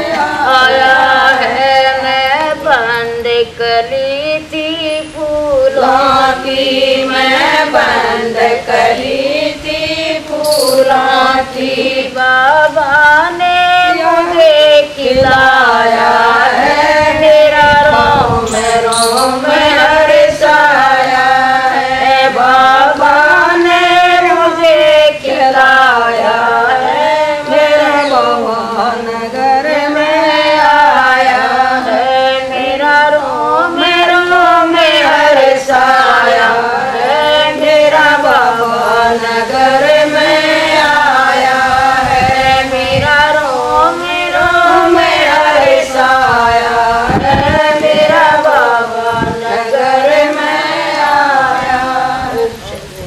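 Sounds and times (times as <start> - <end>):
women singing together: 0.0 - 53.0.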